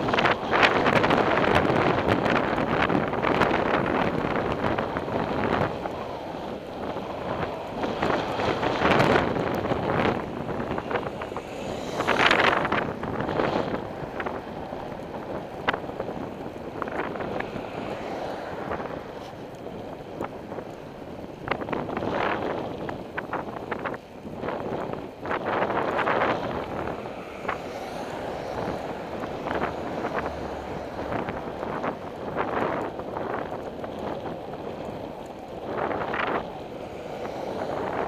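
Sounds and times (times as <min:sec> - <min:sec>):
car passing by: 0:00.0 - 0:22.6, 0:24.8 - 0:38.0
road noise: 0:00.0 - 0:38.0
wind rushing over microphone: 0:00.0 - 0:38.0.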